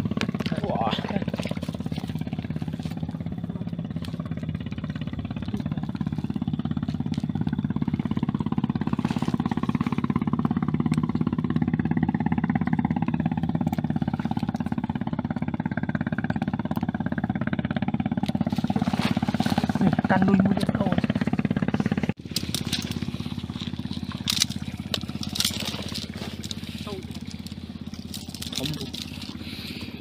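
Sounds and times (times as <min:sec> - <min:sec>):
small motor droning: 0:00.0 - 0:30.0.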